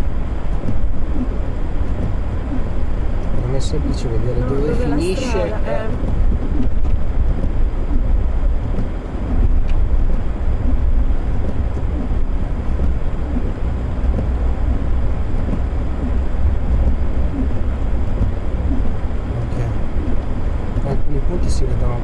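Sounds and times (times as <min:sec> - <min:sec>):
engine and drivetrain rumble: 0:00.0 - 0:22.0.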